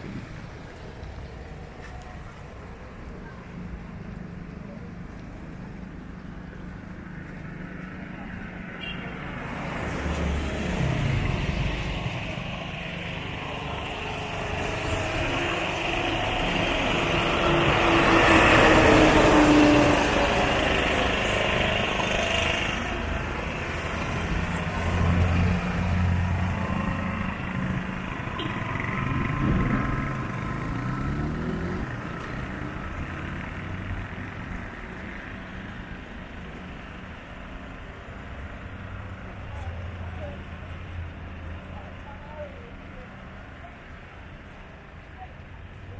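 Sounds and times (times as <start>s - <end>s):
vehicles passing: 0.0s - 45.9s.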